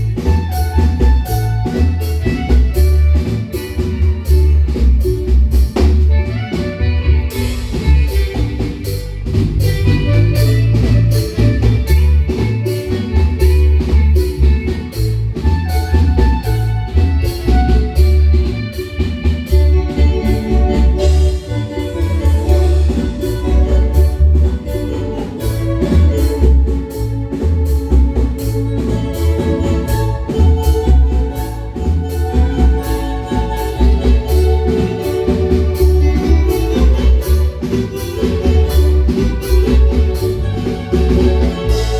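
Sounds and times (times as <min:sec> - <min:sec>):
drum kit: 0:00.0 - 0:41.9
marimba notes: 0:00.0 - 0:41.9
rhythmic bass line: 0:00.0 - 0:41.9.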